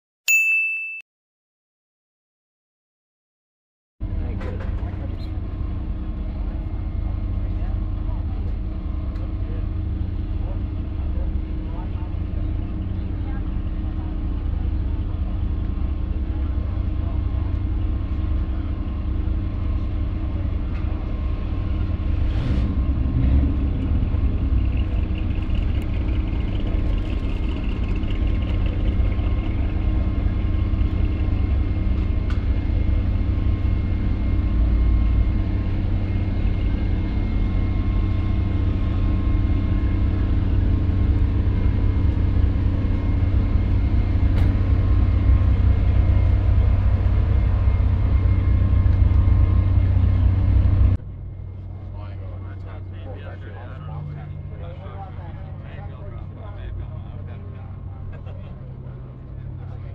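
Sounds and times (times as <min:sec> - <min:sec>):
engine running hum: 0:04.0 - 0:59.9.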